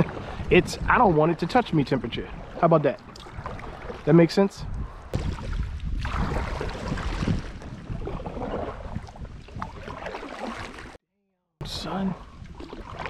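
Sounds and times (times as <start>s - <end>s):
water splashing around kayak: 0.0s - 11.0s, 11.6s - 13.0s
wind rumble on microphone: 0.0s - 11.0s, 11.6s - 13.0s.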